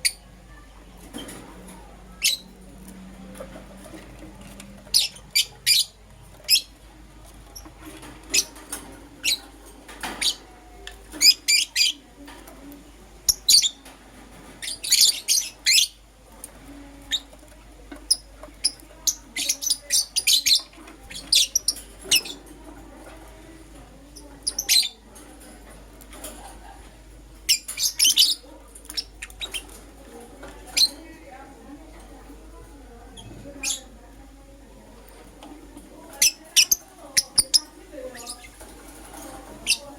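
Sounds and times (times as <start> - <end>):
lovebirds chirping: 0.0 - 12.2, 13.2 - 16.1, 16.8 - 22.6, 24.1 - 25.2, 27.4 - 31.5, 32.9 - 35.4, 36.0 - 39.9.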